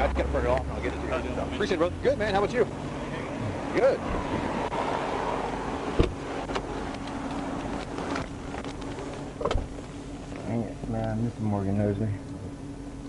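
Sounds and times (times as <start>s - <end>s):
car running noise: 0.0s - 13.0s.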